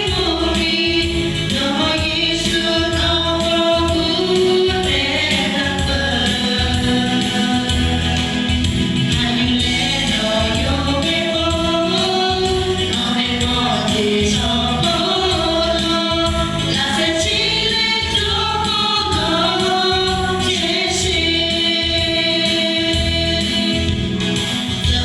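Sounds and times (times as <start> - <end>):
choir singing a hymn: 0.0 - 23.9
instrumental backing with beat: 0.0 - 25.0.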